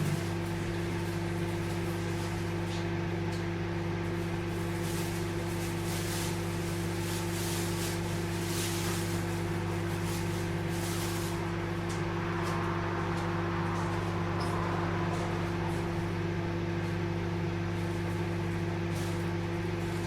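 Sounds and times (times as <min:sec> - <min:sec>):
microwave hum and fan whir: 0:00.0 - 0:20.0.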